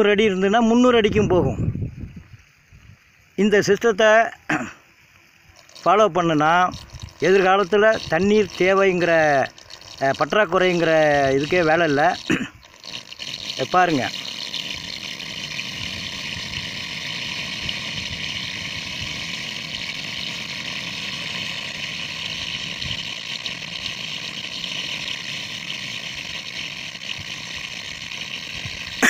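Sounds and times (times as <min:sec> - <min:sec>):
water rushing into a hose: 0:00.0 - 0:29.0.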